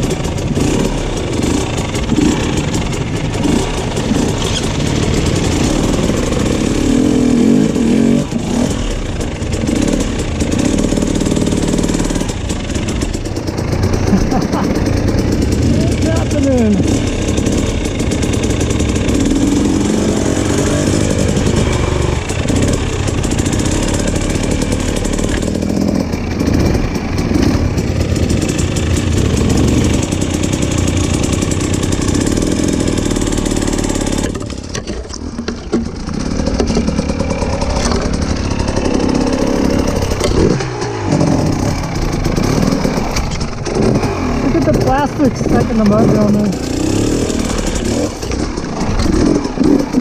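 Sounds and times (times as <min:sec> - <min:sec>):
off-road vehicle engine: 0:00.0 - 0:50.0.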